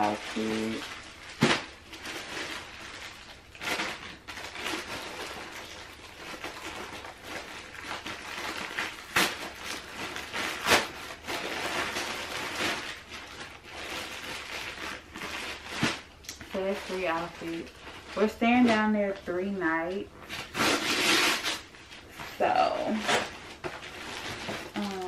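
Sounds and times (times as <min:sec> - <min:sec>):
clothes and bags rustling: 0:00.0 - 0:25.0.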